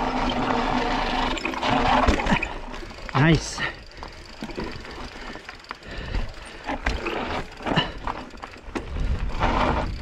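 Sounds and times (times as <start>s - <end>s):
bike rattling and clicking: 0.0s - 10.0s.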